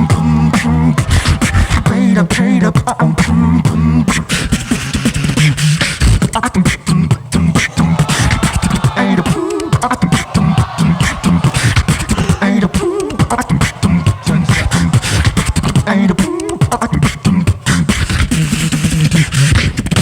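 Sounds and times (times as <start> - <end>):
beatbox vocal drums: 0.0 - 20.0
vocal melody: 0.0 - 20.0.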